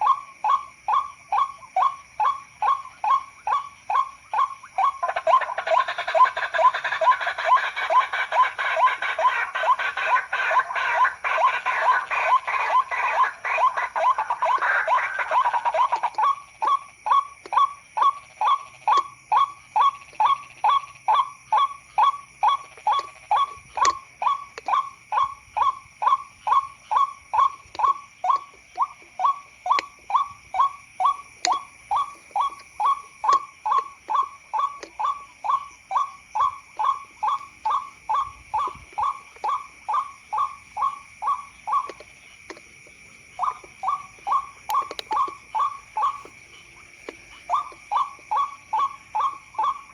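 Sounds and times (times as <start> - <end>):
waterhen calls: 0.0 - 49.9.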